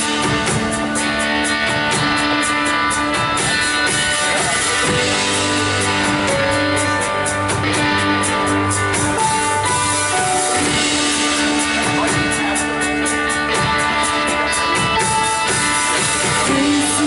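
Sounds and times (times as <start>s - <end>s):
strummed guitar: 0.0s - 17.0s
worship band playing: 0.0s - 17.0s.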